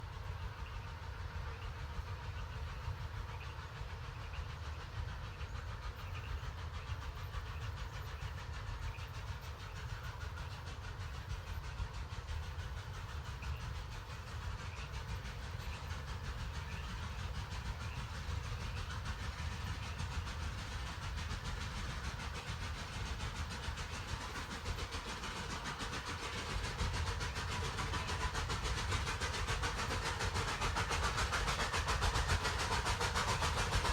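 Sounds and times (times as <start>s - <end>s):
train locomotives rumbling: 0.0s - 33.9s.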